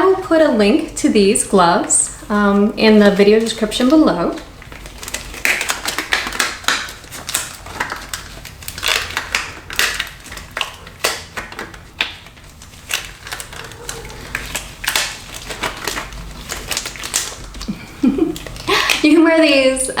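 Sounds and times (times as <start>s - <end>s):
gloves crinkling and clicking: 0.6s - 20.0s.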